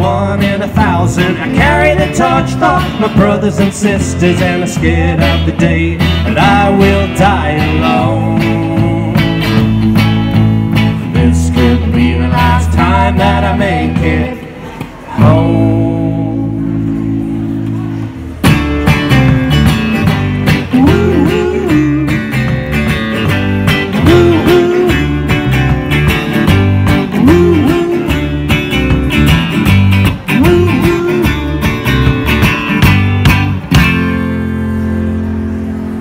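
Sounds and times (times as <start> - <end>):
bass guitar: 0.0 - 36.0
electric guitar: 0.0 - 36.0
live band playing: 0.0 - 36.0.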